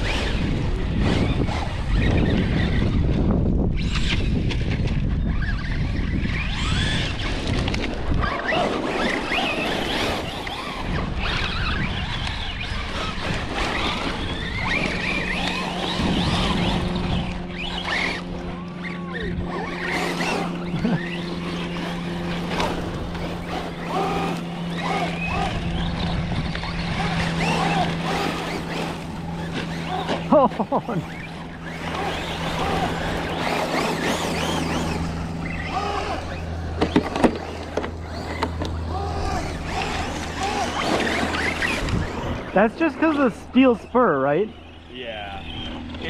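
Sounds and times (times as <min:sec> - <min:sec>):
wind on microphone: 0:00.0 - 0:43.6
electric motors whining: 0:00.0 - 0:46.0
steady low hum: 0:00.0 - 0:46.0.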